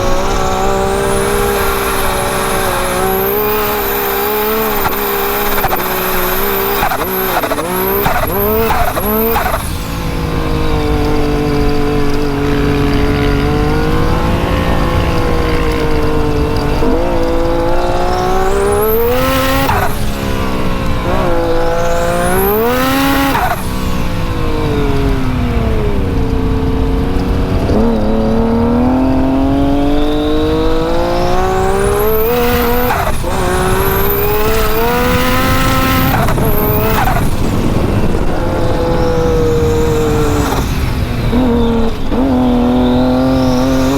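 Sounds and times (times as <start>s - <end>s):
engine revving: 0.0s - 43.9s.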